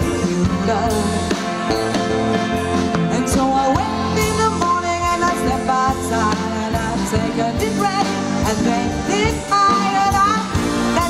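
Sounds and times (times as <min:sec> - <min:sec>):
bass chords: 0:00.0 - 0:11.0
drum kit beat: 0:00.0 - 0:11.0
electric guitar: 0:00.0 - 0:11.0.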